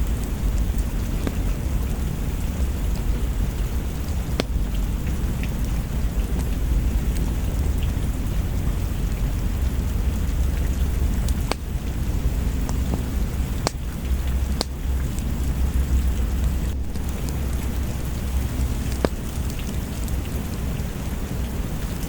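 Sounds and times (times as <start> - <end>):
low rumble: 0.0 - 22.0
steady rain: 0.0 - 22.0
wood fire crackling and popping: 0.0 - 22.0.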